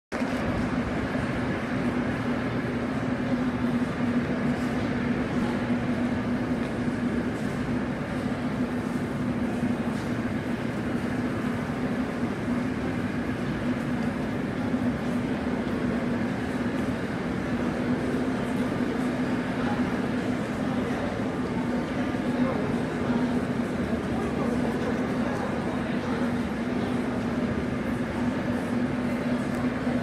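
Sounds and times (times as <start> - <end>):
rumbling din of metro passageways: 0.1 - 30.0
constant low hum: 0.2 - 30.0.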